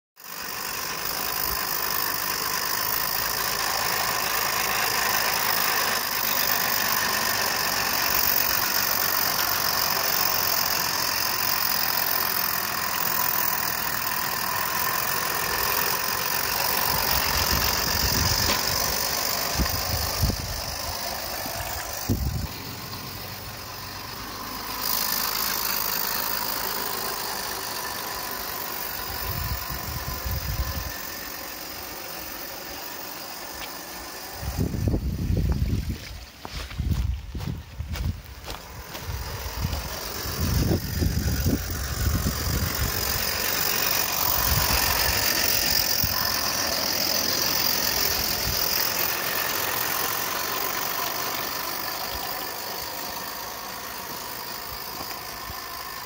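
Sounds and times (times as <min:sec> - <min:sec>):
steam hissing: 0:00.2 - 0:36.4, 0:38.6 - 0:56.0.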